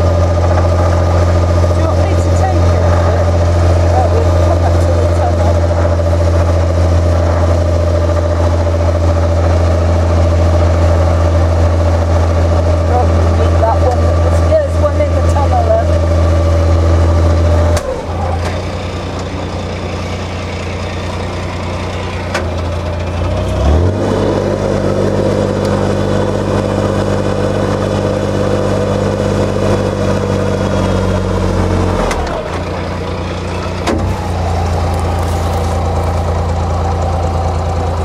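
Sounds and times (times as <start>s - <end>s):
diesel boat engine running: 0.0s - 38.0s.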